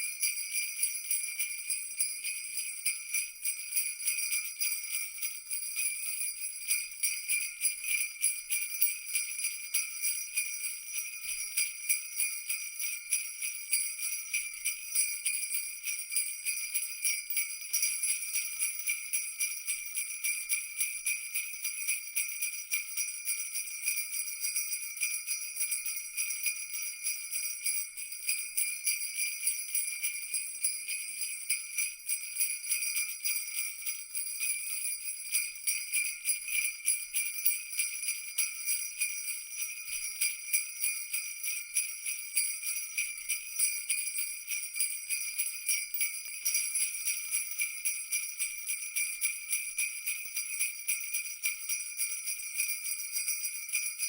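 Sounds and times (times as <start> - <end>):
jingle bells shaken: 0.0 - 54.0.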